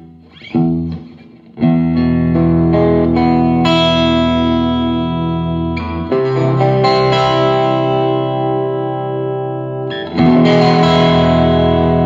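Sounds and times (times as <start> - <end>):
electric guitar chords: 0.0 - 12.0.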